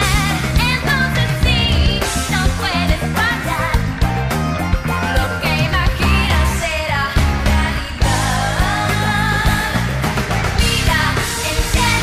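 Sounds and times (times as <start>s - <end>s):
pop-rock band playing: 0.0s - 12.0s.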